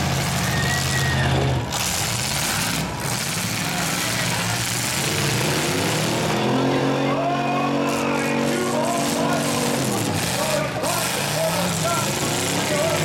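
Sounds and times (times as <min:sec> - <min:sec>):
engine revving up: 0:00.0 - 0:13.0
truck engines running hard: 0:00.0 - 0:13.0.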